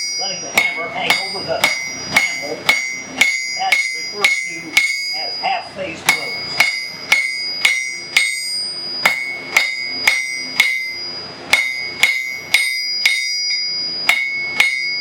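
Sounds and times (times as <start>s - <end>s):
hammer ringing on anvil: 0.0s - 15.0s.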